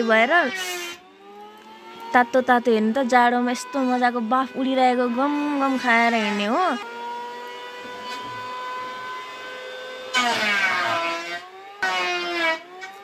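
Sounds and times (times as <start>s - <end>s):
motorised machine whining: 0.0s - 13.0s.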